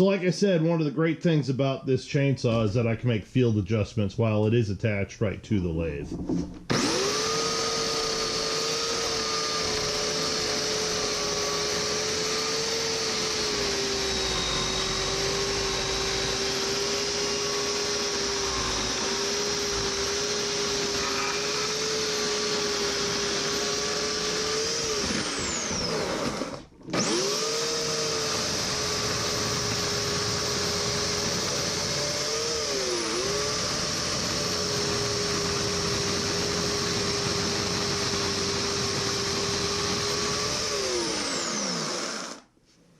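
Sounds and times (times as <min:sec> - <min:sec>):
electric chainsaw motor whining: 0:06.7 - 0:42.5.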